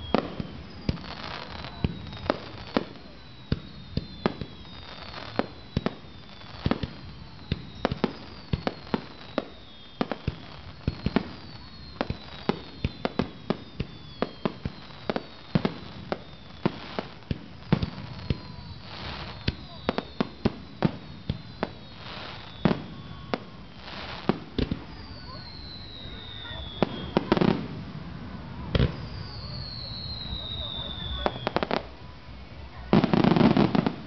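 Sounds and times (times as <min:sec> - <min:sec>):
fireworks bangs: 0:00.0 - 0:34.0
fireworks whistles: 0:00.0 - 0:34.0.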